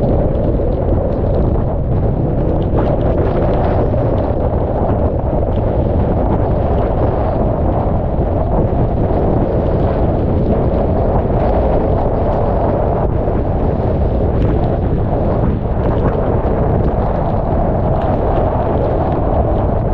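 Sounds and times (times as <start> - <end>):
rain: 0.0 - 19.9
strong wind on microphone: 0.0 - 19.9.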